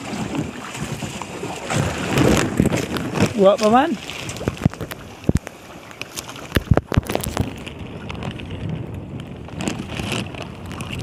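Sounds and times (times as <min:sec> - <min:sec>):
water lapping around boat: 0:00.0 - 0:11.0
wind on microphone: 0:00.0 - 0:11.0.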